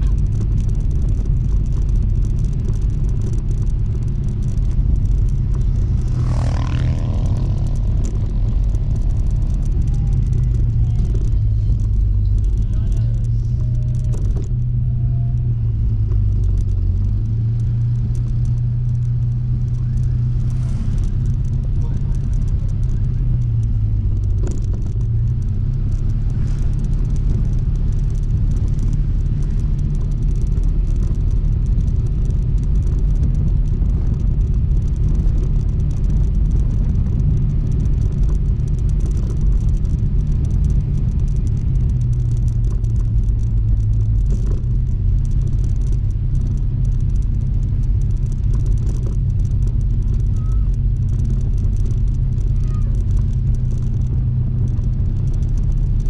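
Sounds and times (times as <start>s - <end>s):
scooter engine running: 0.0s - 56.0s.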